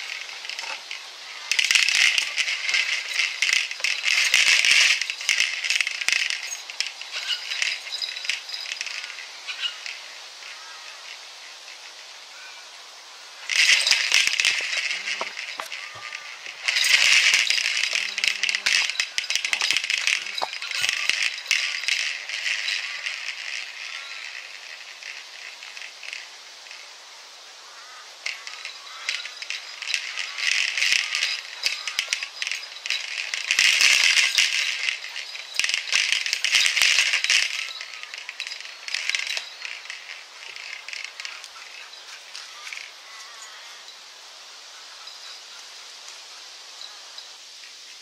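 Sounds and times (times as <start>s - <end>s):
ball toy rattling: 0.0s - 12.1s, 13.4s - 27.1s, 27.7s - 43.9s.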